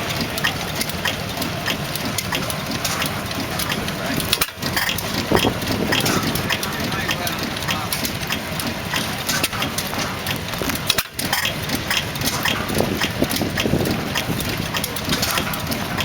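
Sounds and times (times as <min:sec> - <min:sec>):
hit-and-miss engine running: 0:00.0 - 0:16.0
sharp engine clicks: 0:00.0 - 0:16.0.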